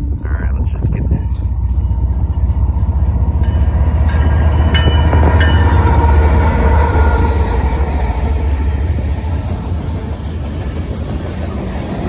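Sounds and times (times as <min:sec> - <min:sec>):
freight train rumble: 0:00.0 - 0:12.0
wheels squeaking: 0:01.5 - 0:12.0.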